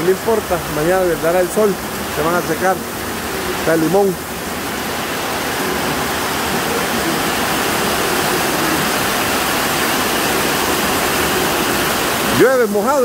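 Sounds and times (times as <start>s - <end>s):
rain on a metal roof: 0.0s - 13.0s.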